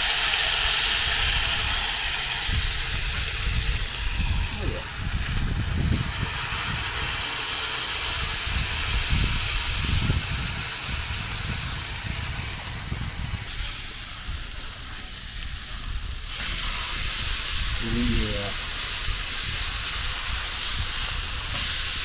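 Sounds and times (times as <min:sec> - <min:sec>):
burger patties sizzling: 0:00.0 - 0:22.0.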